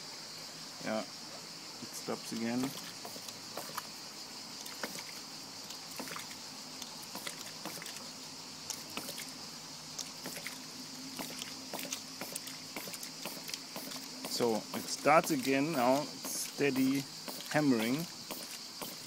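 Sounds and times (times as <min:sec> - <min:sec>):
steady high hiss: 0:00.0 - 0:19.0
water spurting: 0:01.9 - 0:19.0.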